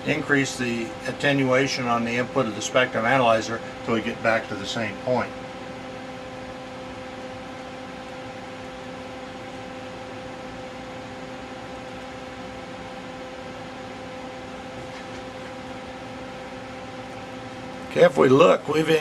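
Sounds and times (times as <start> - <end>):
electronic equipment hum and hiss: 0.0 - 19.0.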